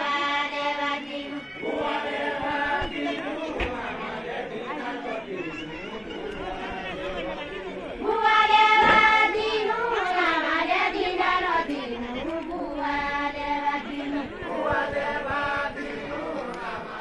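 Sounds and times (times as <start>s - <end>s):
women singing folk song: 0.0s - 5.2s, 8.0s - 17.0s.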